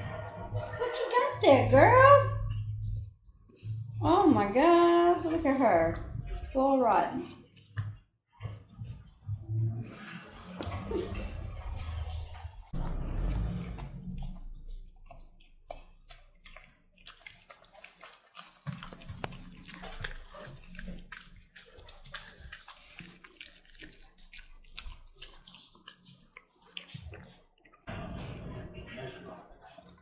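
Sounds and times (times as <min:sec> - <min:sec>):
dog chewing a bone: 0:00.0 - 0:30.0.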